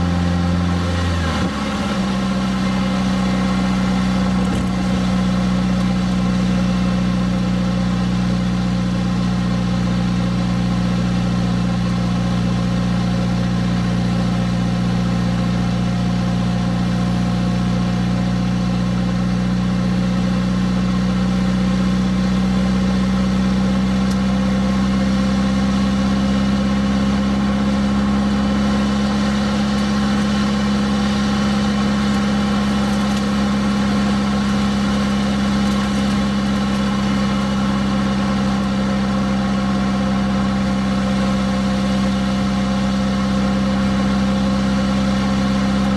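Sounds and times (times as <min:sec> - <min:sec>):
engine humming while driving: 0:00.0 - 0:45.9.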